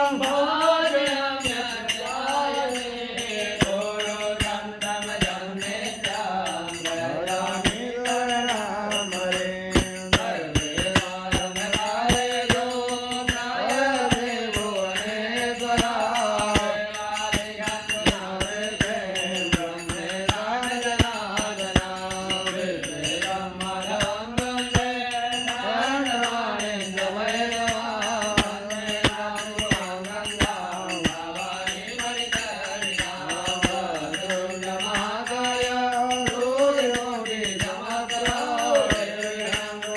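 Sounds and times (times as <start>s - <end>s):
person chanting: 0.0s - 39.9s
sharp percussive strikes: 0.0s - 39.9s.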